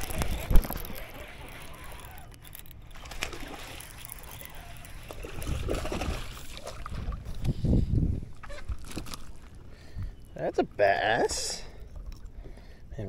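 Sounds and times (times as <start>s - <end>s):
water sloshing against boat: 0.0s - 12.9s.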